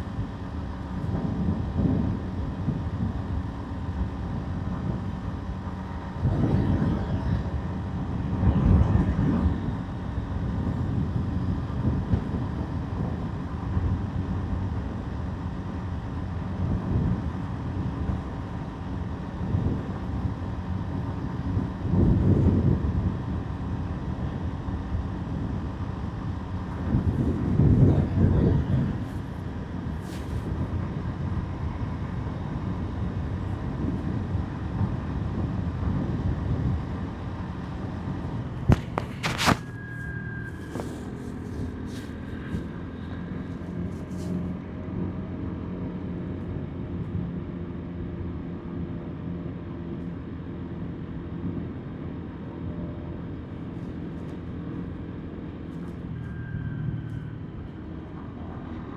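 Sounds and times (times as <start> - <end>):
motorbike engine hum: 0.0 - 58.9
road and wind noise: 0.0 - 58.9.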